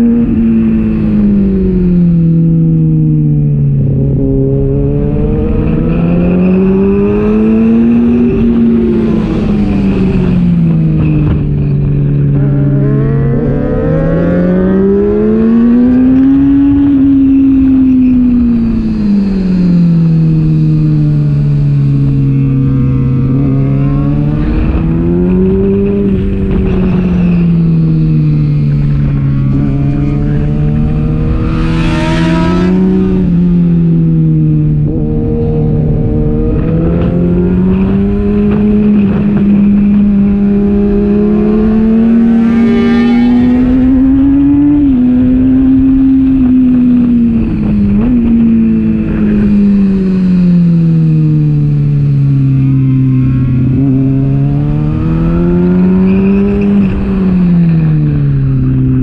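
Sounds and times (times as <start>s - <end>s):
motorcycle engine at race pace: 0.0s - 59.0s
wind rush: 0.0s - 59.0s.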